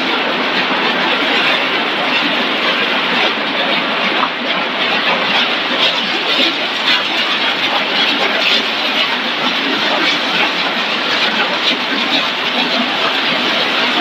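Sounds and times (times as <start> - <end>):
machinery clattering: 0.0 - 14.0.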